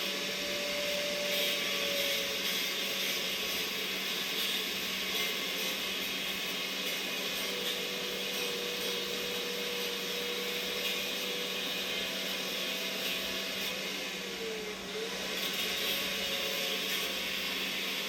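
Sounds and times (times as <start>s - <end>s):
cut-off wheel grinding steel: 0.0s - 18.0s.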